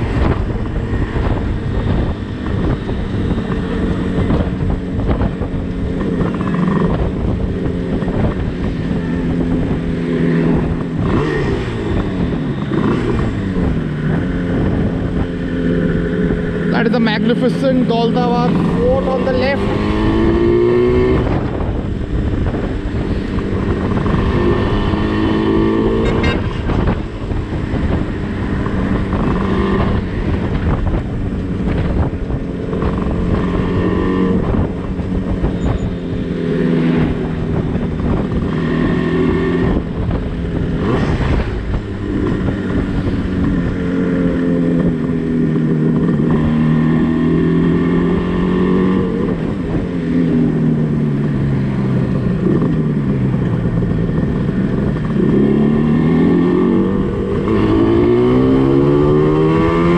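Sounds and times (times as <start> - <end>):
wind noise on microphone: 0.0 - 59.9.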